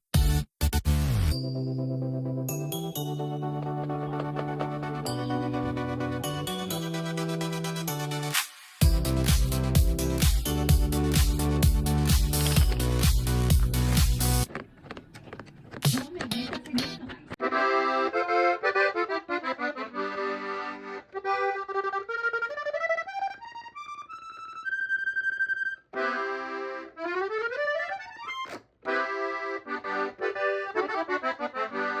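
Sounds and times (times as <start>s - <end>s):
accordion playing: 2.5s - 32.0s.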